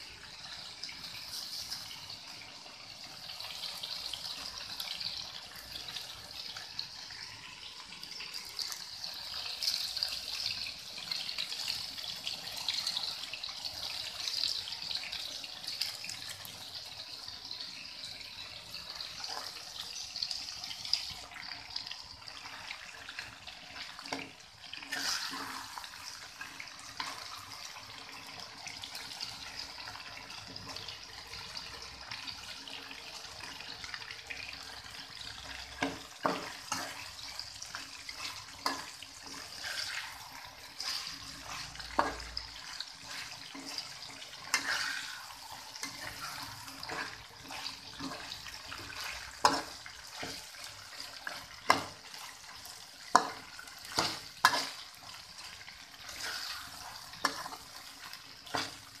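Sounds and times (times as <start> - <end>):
chicken sizzling in a wok: 0.0 - 59.0.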